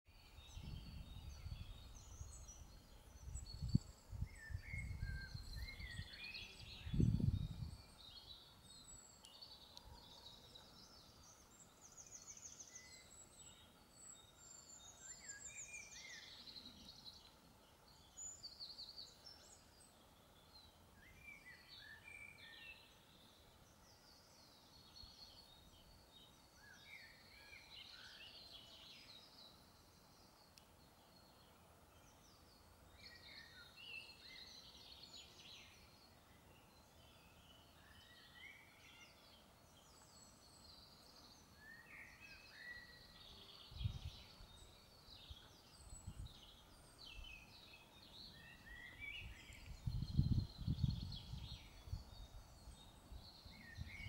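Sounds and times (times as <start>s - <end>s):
birds singing: 0.1s - 54.0s.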